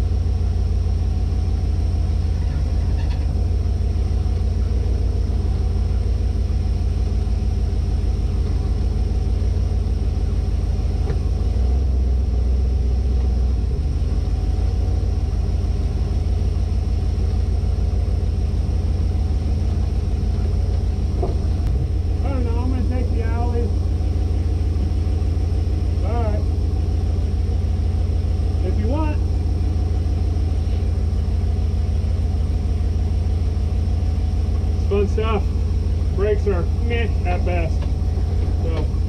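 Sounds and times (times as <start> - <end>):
vehicle engine rumbling while driving: 0.0 - 39.0.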